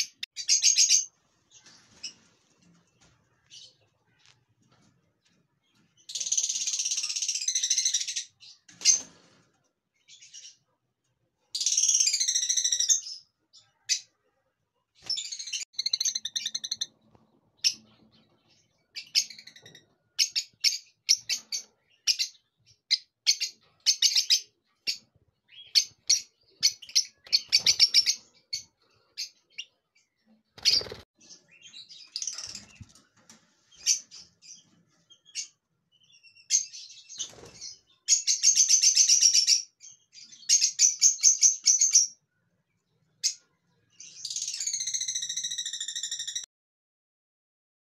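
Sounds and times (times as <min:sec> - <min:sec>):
lovebirds chirping: 0:00.0 - 0:09.4, 0:15.0 - 0:46.4.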